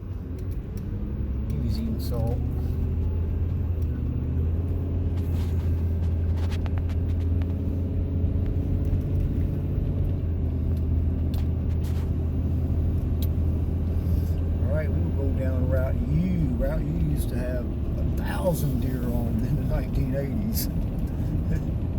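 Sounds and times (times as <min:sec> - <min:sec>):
car engine humming: 0:00.0 - 0:21.9.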